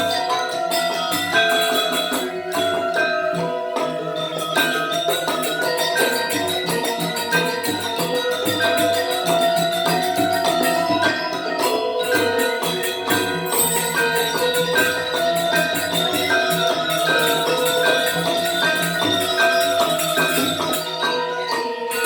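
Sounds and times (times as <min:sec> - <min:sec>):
metallophone strokes: 0:00.0 - 0:22.0
small cymbals clashing: 0:00.0 - 0:22.0.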